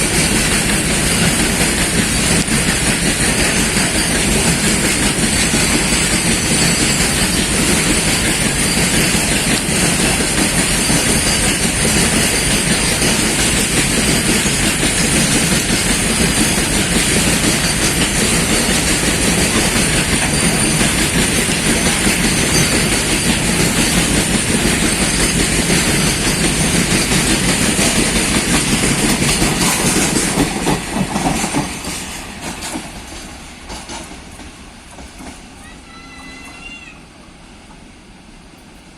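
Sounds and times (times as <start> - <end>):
train wheels clattering over rails: 0.0 - 36.9.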